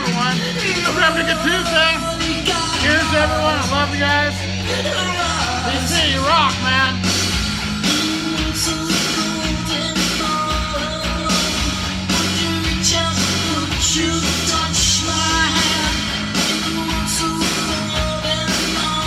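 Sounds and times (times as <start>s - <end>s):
person singing: 0.0s - 7.2s, 7.8s - 19.0s
drums: 0.0s - 19.0s
electric guitar: 0.0s - 19.0s
rock song from vinyl record: 0.0s - 19.0s.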